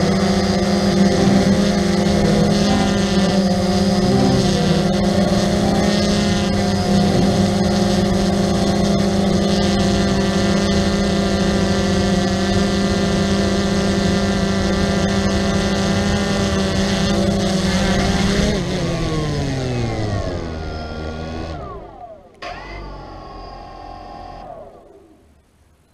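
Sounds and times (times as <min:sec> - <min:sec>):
drone motors and propellers: 0:00.0 - 0:25.9.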